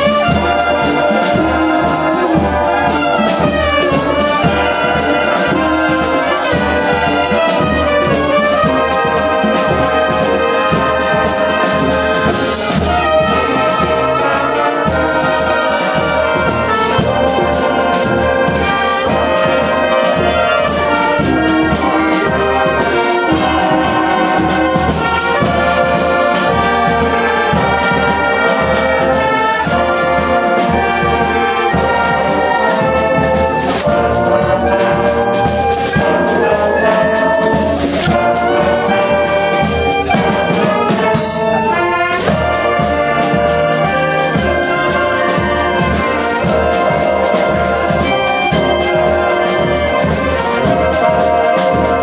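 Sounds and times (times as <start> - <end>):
wind band playing: 0.0 - 52.0.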